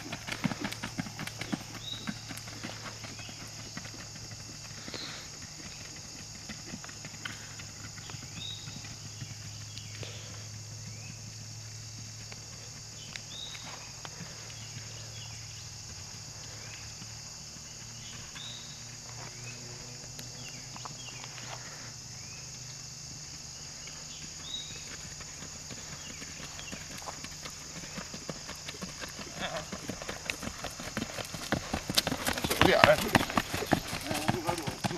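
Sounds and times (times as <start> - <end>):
horse hooves on grass: 0.0 - 34.9.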